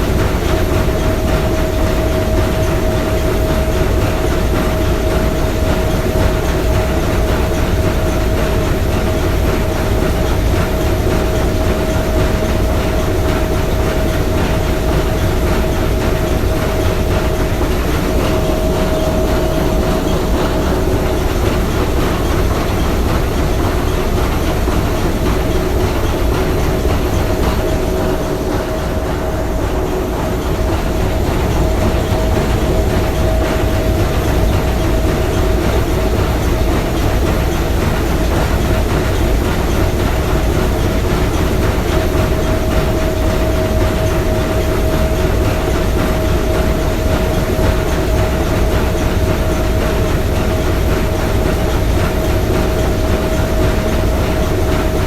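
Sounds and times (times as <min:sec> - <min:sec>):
steam engine clattering: 0:00.0 - 0:55.0.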